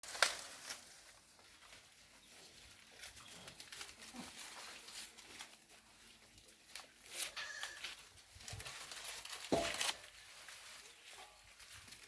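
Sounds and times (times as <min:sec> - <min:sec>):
goats rustling and clicking: 0:00.0 - 0:12.0.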